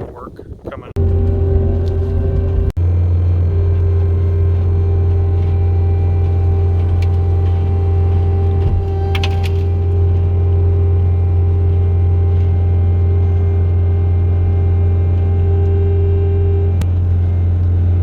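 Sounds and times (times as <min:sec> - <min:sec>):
engine droning steadily: 0:01.0 - 0:18.0.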